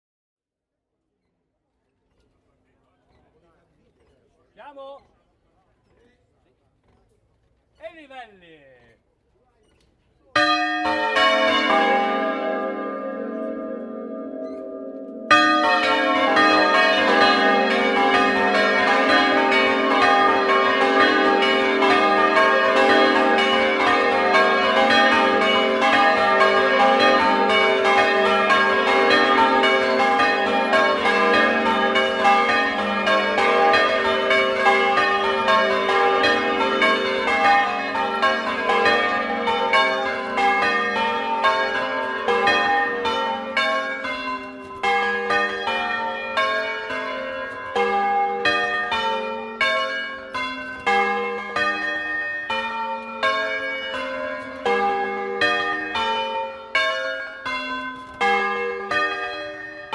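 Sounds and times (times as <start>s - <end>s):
church bells ringing: 10.4s - 59.9s.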